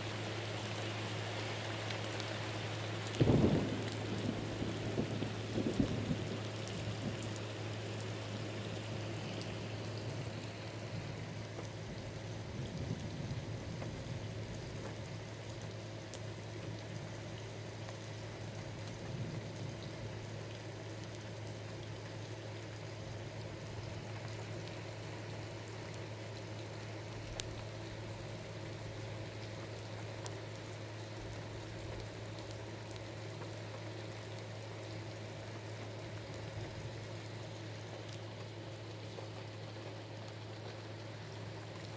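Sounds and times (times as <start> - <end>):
constant low hum: 0.0 - 41.9
steady rain: 0.0 - 41.9.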